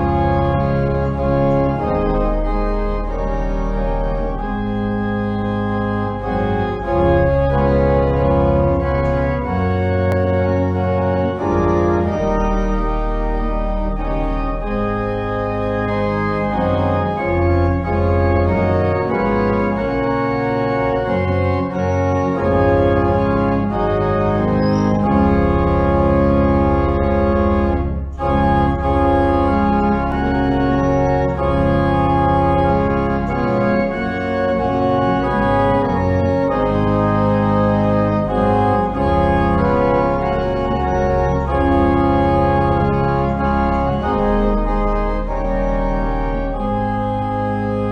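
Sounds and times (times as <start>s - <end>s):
organ music: 0.0s - 47.9s.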